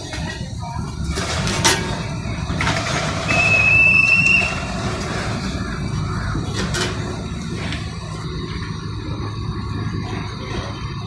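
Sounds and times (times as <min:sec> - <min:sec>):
train rolling past: 0:00.0 - 0:11.0
high whistling squeal: 0:01.4 - 0:11.0.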